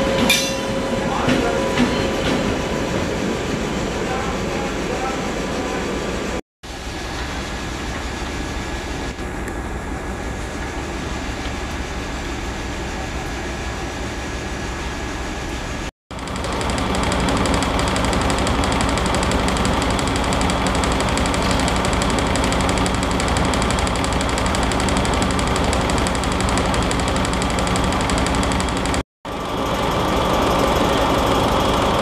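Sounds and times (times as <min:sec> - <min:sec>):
railway train rumble and hum: 0:00.0 - 0:32.0.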